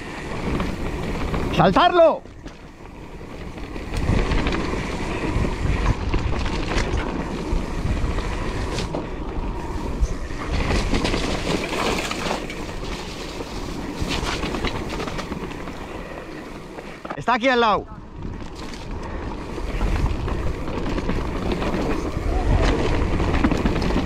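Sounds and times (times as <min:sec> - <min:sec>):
wind rushing over microphone: 0:00.0 - 0:17.2, 0:17.8 - 0:24.0
bike tyres rumbling over dirt: 0:00.0 - 0:24.0.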